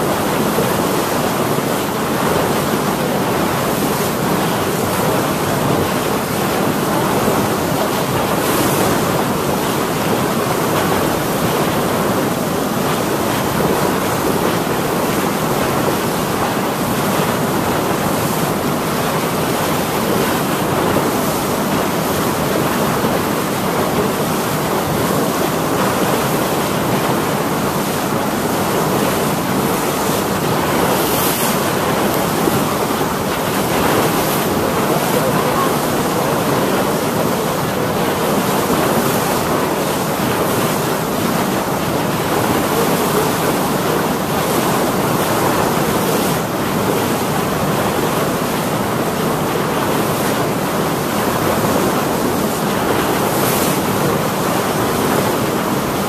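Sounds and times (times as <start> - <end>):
water splashing around boat: 0.0 - 56.0.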